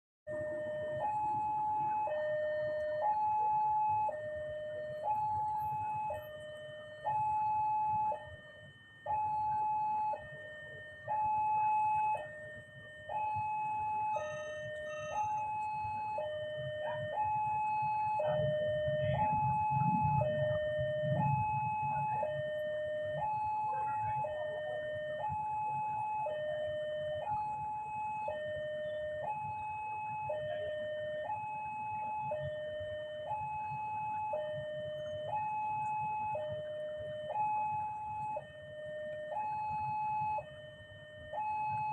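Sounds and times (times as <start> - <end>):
level crossing two-tone alarm: 0.3 - 41.9.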